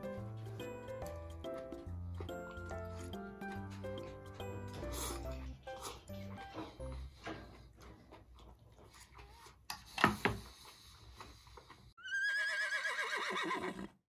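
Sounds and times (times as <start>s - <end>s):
quiet eating sounds: 0.0s - 12.0s.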